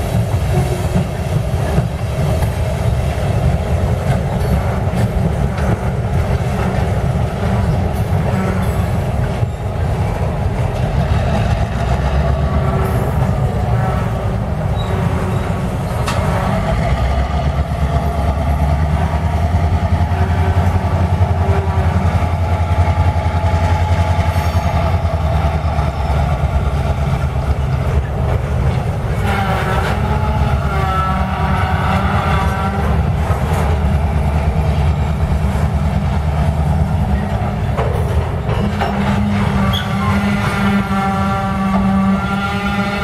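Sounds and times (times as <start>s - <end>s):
diesel locomotive drone: 0.0s - 43.0s
train cars rumbling on rails: 0.0s - 43.0s.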